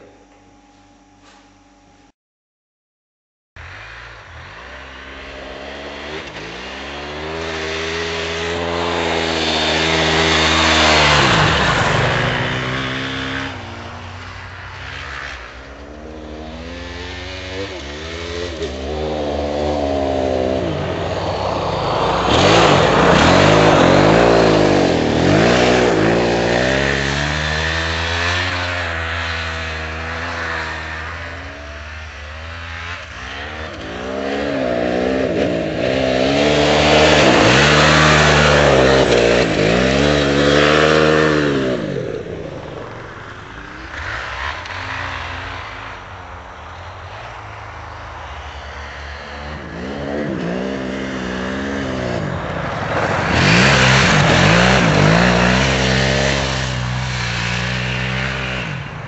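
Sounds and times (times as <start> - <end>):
motorcycle engine revving: 3.6 - 59.0.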